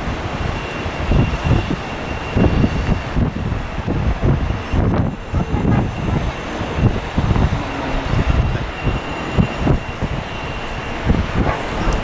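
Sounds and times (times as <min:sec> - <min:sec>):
jet airliner taking off: 0:00.0 - 0:12.0
faint high whine: 0:00.4 - 0:12.0.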